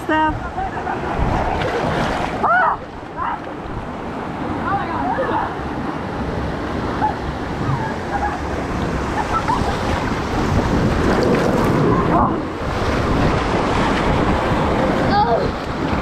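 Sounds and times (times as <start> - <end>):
wind on microphone: 0.0 - 4.6, 5.6 - 16.0
rushing splashing water: 0.0 - 16.0.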